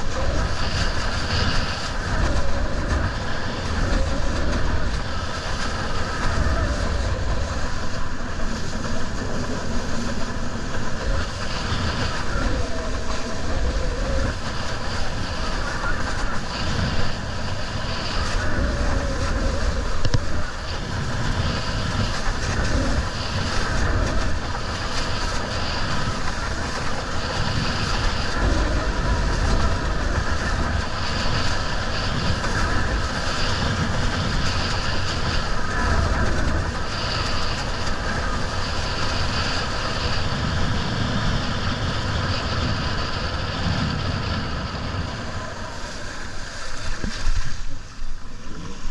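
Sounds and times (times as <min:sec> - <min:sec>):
heavy low rumble: 0:00.0 - 0:48.9
water hissing along a board: 0:00.0 - 0:48.9
wind buffeting microphone: 0:00.0 - 0:48.9.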